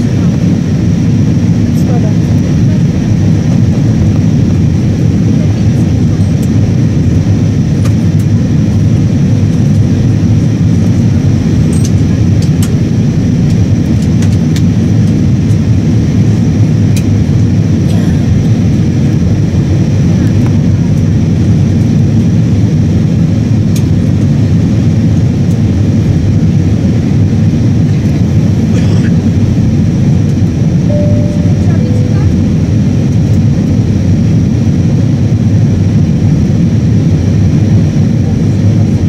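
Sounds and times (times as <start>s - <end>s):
jet cabin rumble: 0.0s - 39.0s.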